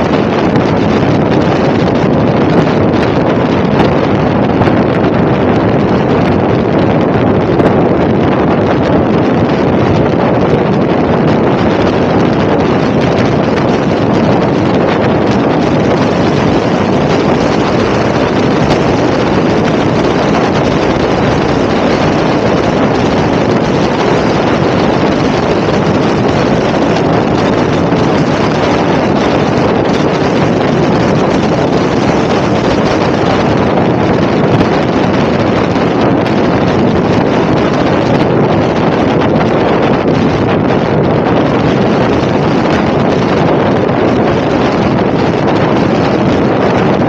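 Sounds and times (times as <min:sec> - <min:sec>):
wind rushing over microphone: 0:00.0 - 0:47.0.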